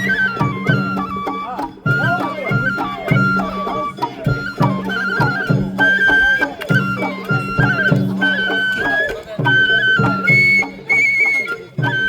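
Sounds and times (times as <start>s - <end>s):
bamboo flute melody: 0.0s - 12.0s.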